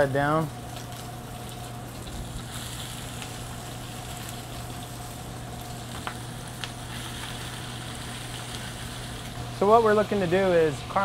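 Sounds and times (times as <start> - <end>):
meat sizzling in hot oil: 0.0 - 11.0
steady low hum: 0.0 - 11.0.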